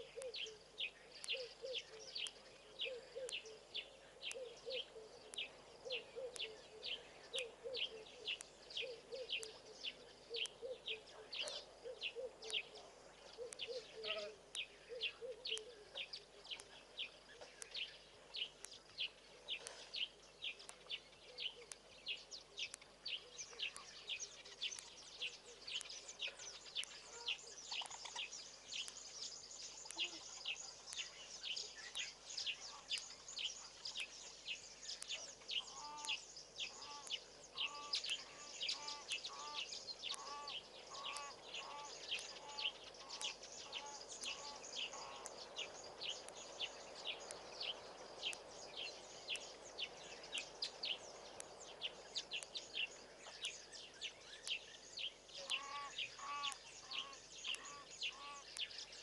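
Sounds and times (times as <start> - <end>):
high insect hiss: 0.0 - 59.0.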